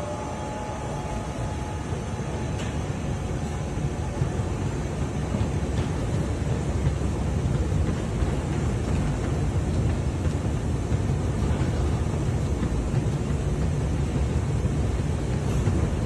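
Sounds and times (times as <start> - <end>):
baggage carousel rumbling: 0.0 - 16.0.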